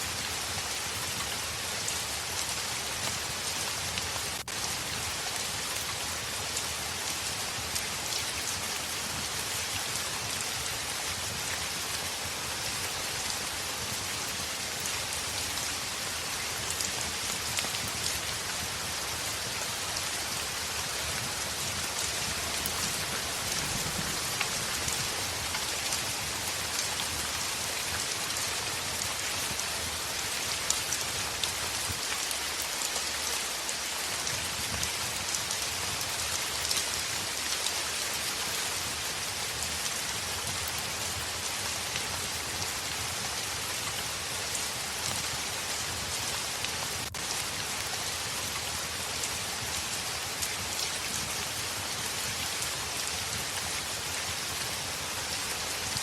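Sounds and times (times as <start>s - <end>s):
heavy rain on a window: 0.0s - 56.0s.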